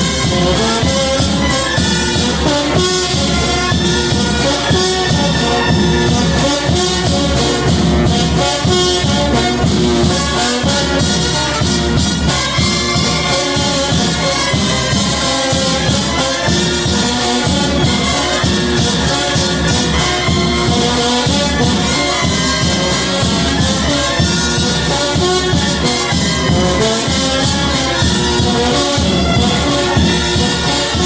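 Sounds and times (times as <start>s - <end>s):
brass band playing: 0.0s - 31.0s
percussion: 0.0s - 31.0s.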